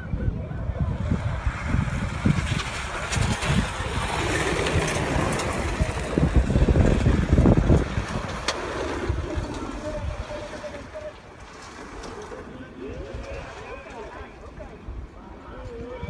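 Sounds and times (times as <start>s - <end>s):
wind buffeting microphone: 0.0s - 16.0s
tyres spraying dirt and gravel: 1.1s - 14.7s.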